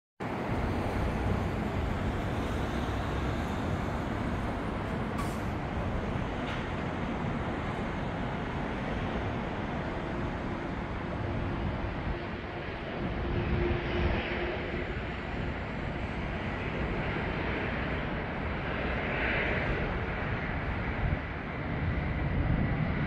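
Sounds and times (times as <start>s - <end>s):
distant jet engines rumbling: 0.2s - 23.0s.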